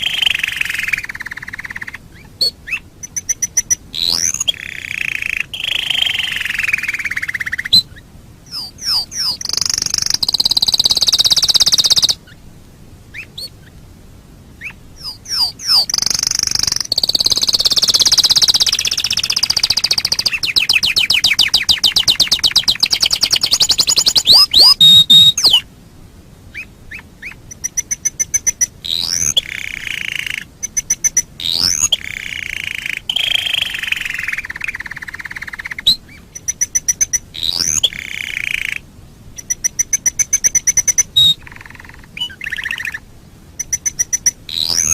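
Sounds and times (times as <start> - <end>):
canary singing trills: 0.0 - 12.4, 13.1 - 13.8, 14.6 - 25.7, 26.5 - 44.9.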